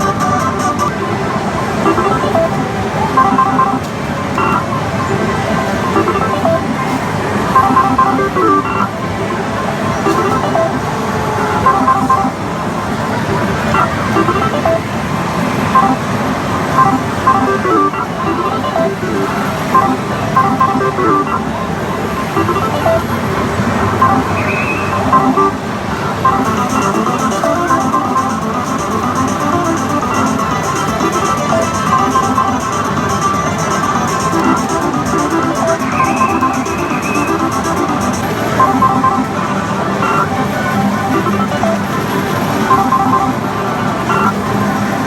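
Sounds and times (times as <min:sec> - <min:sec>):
electronic beeps and chimes: 0:00.0 - 0:12.6, 0:13.6 - 0:14.9, 0:15.7 - 0:45.0
music: 0:00.0 - 0:15.0, 0:15.6 - 0:45.0.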